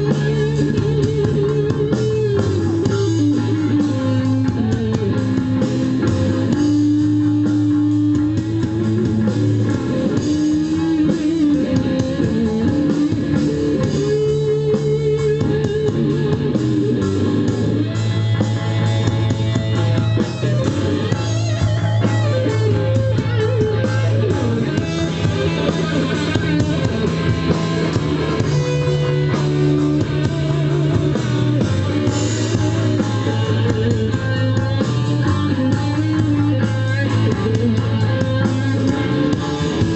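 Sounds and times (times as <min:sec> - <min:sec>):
bass guitar: 0:00.0 - 0:39.9
drums: 0:00.0 - 0:39.9
lead guitar bent notes: 0:00.0 - 0:39.9.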